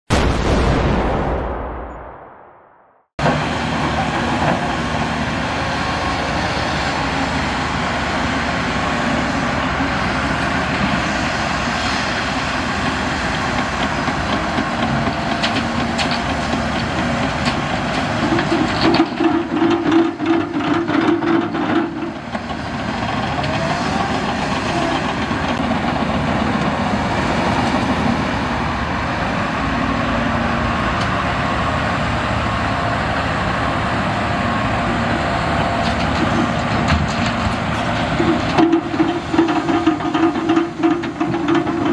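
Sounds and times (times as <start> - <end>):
heavy diesel machinery running: 3.2 - 41.9.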